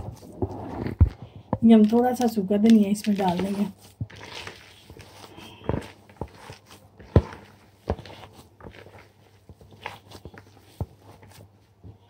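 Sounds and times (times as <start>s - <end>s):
hand mashing potato filling: 0.0s - 12.0s.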